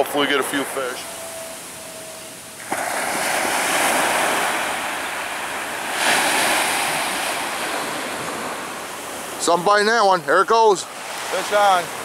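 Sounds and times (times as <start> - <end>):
ocean surf breaking on sand: 0.0 - 12.0.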